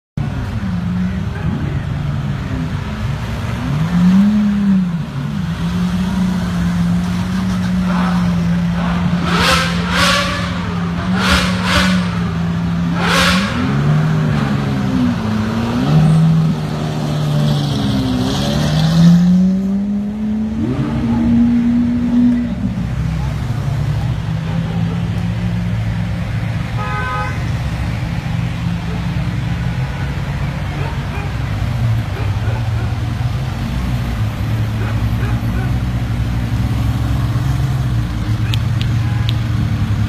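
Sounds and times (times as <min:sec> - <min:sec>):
supercar engines revving: 0:00.2 - 0:40.0.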